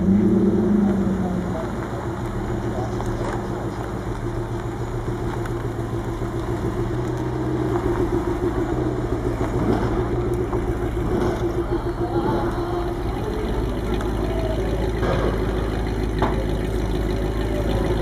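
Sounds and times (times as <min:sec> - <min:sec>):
car engine at low revs: 0:00.0 - 0:18.0.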